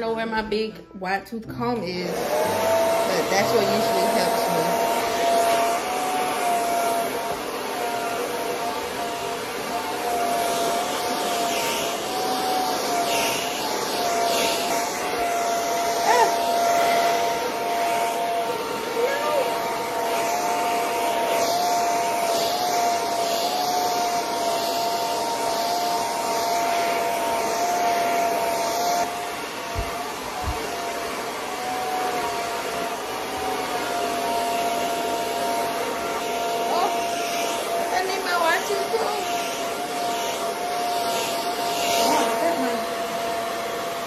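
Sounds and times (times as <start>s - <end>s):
hair dryer running: 0.0s - 44.0s.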